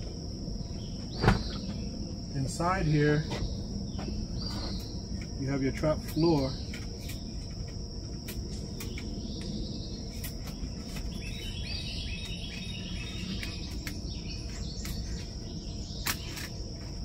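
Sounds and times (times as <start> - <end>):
insects chorus: 0.0 - 17.0
bird chirping: 0.6 - 7.6, 8.7 - 16.6.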